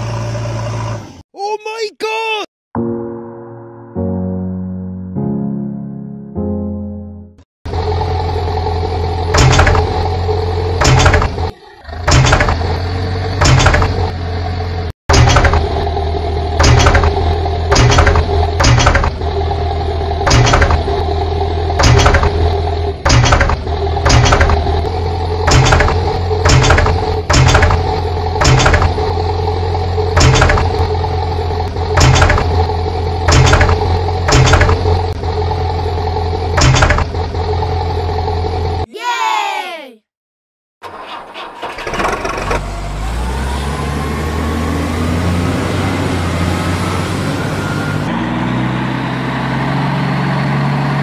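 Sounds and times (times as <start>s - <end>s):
heavy machinery engine running: 0.0s - 1.2s, 7.7s - 38.9s, 40.8s - 51.0s.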